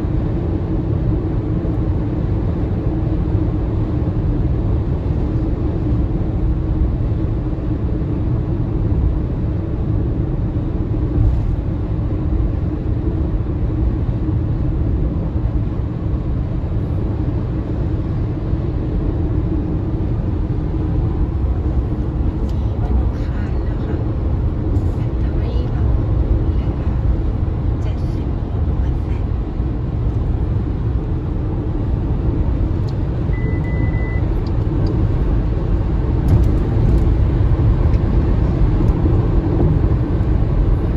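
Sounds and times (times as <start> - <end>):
road and tyre rumble: 0.0 - 40.9.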